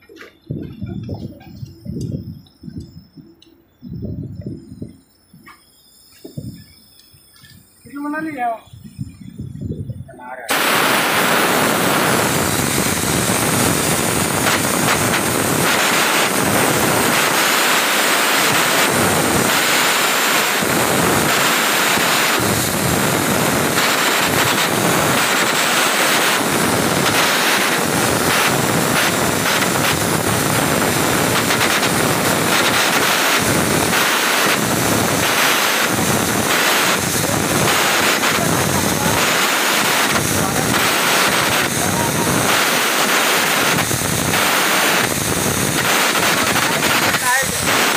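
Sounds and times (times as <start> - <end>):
welding arc crackling: 0.0 - 47.9.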